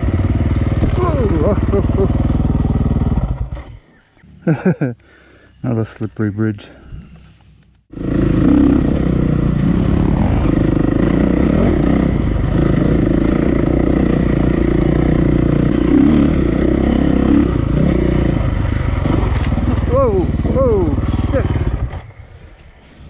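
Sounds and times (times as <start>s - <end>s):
dirt bike engine running: 0.0s - 4.9s, 7.1s - 23.0s.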